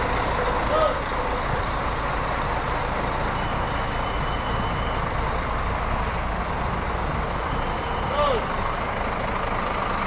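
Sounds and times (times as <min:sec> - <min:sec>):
bus engines idling: 0:00.0 - 0:10.0.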